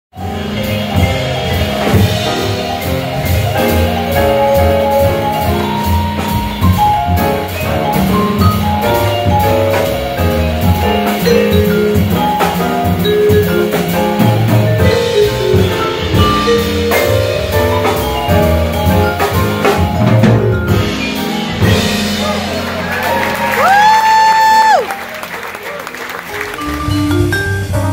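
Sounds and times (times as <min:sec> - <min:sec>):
drum kit with cymbals: 0:00.1 - 0:27.9
walking upright bass: 0:00.2 - 0:24.0, 0:24.7 - 0:27.9
vibraphone melody: 0:00.2 - 0:24.4, 0:25.0 - 0:27.9.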